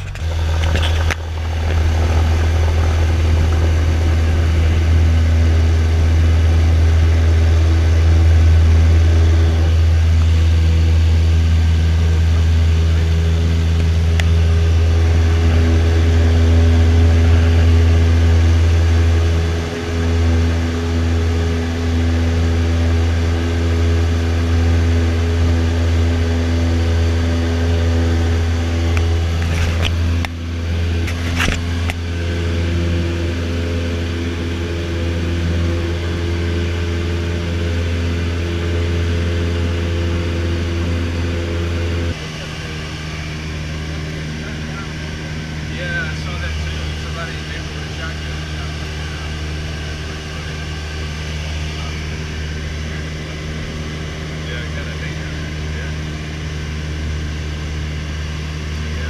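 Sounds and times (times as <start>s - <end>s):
light airplane engine drone: 0.0s - 59.0s.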